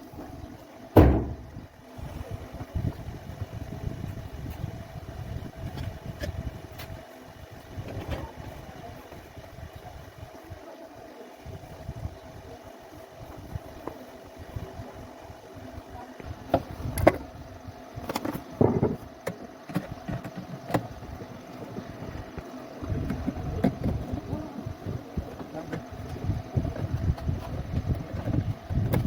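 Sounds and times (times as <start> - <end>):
steady background hum: 0.0 - 29.0
wind rumble on microphone: 0.2 - 10.6, 11.4 - 19.1, 20.9 - 29.0.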